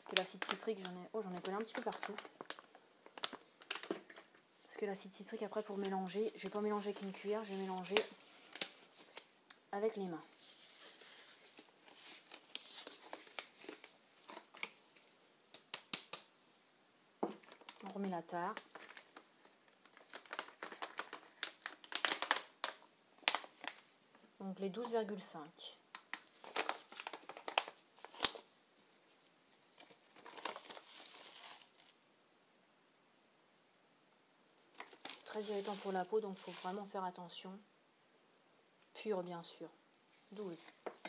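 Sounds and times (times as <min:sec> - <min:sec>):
disposable gloves crinkling: 0:00.0 - 0:16.4, 0:17.2 - 0:25.2, 0:25.9 - 0:32.2, 0:34.6 - 0:37.0, 0:40.0 - 0:41.0.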